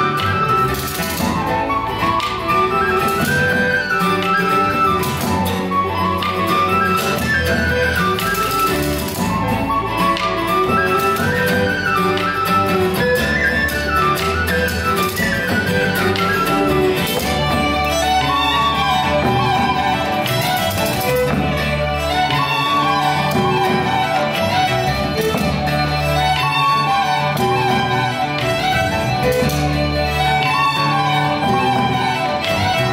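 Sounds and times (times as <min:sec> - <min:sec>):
drum kit: 0:00.0 - 0:26.6
fast ornamented lead melody: 0:00.0 - 0:32.9
strummed acoustic guitar: 0:00.0 - 0:32.9.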